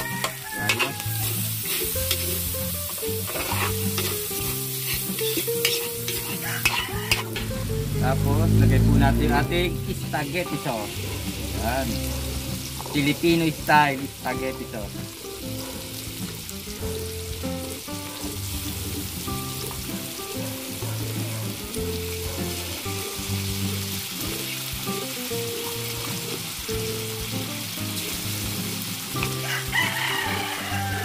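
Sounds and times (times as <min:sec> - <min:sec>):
background music: 0:00.0 - 0:31.0
meat and peppers sizzling in oil: 0:00.0 - 0:31.0.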